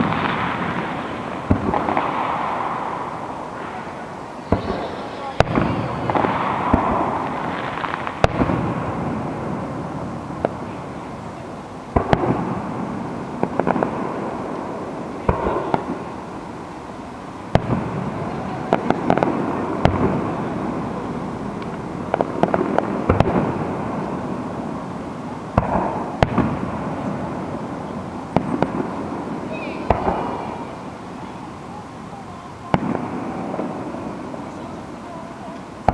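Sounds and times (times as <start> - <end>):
fireworks bursting with echo: 0.0 - 35.9.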